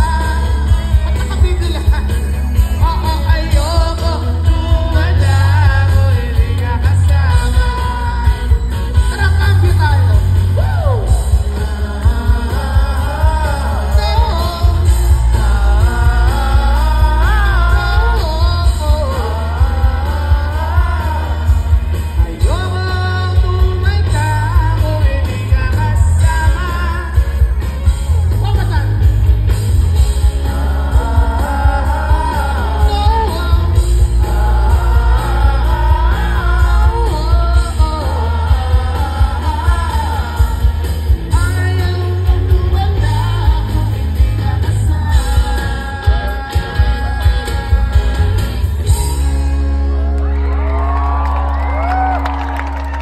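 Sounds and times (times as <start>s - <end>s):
person singing: 0.0s - 27.8s, 30.2s - 51.0s
heavy bass: 0.0s - 53.0s
live rock band playing: 0.0s - 53.0s.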